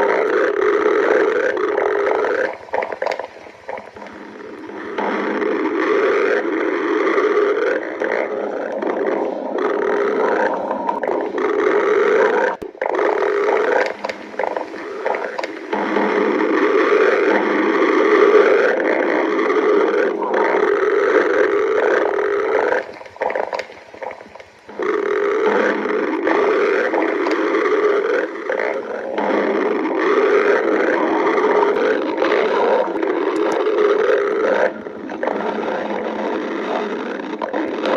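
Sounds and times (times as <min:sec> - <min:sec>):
stomach growling: 0:00.0 - 0:37.9.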